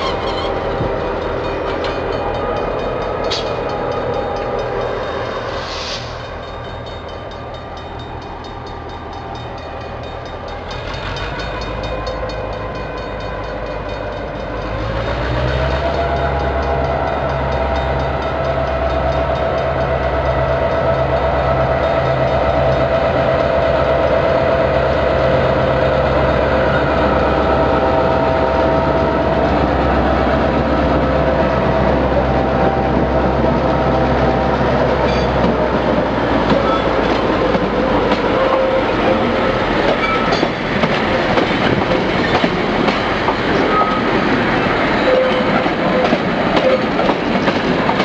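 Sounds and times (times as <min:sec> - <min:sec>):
diesel locomotive engine: 0:00.0 - 0:48.0.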